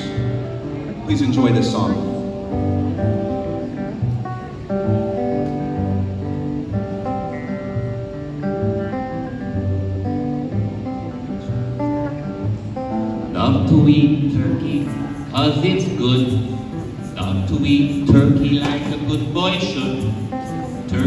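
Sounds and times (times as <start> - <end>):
acoustic guitar strumming: 0.0 - 21.0
double bass line: 2.2 - 21.0.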